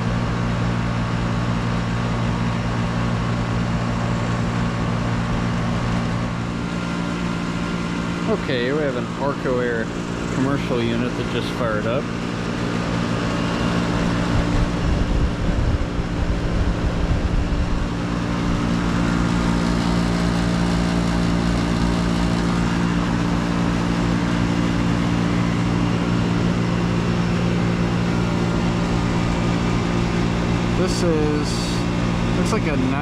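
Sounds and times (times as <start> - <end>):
air conditioning unit humming: 0.0 - 33.0.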